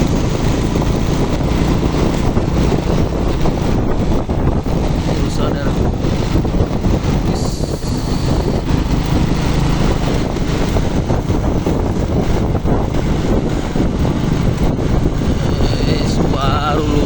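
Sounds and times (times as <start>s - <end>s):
truck engine running: 0.0s - 17.0s
wind buffeting microphone: 0.0s - 17.0s.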